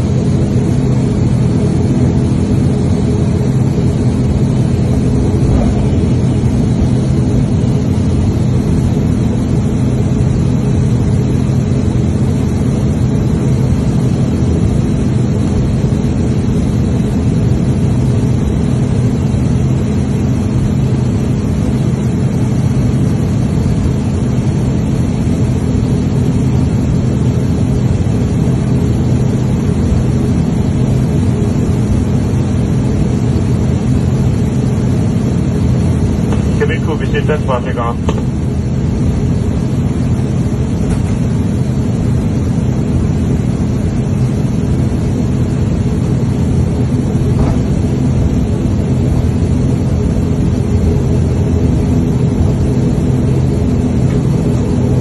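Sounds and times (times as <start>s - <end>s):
propeller engine drone: 0.0s - 55.0s.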